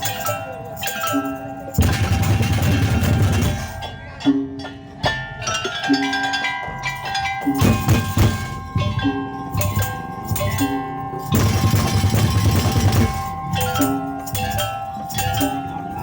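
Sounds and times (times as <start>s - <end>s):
mallet-struck ringing notes: 0.0s - 16.0s
heavy drum beats: 1.8s - 5.8s, 6.6s - 15.6s.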